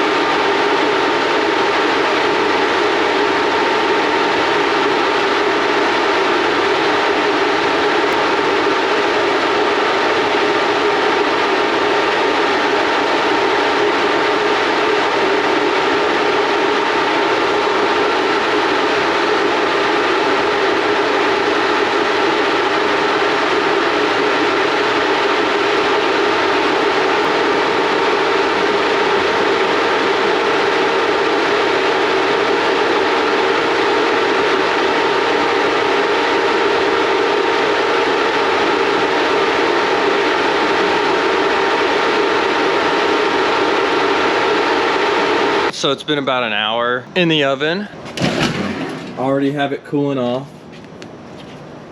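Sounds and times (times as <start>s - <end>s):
cabinet fan running: 0.0s - 46.4s.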